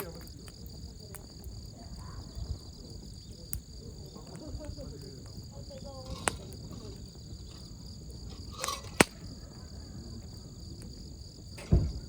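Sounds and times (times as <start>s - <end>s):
campfire crackling and popping: 0.0s - 12.0s
insects chirring: 0.0s - 12.0s.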